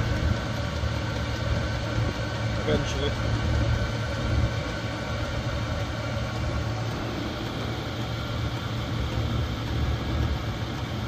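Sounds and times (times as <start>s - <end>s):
diesel air heater humming: 0.0s - 11.0s.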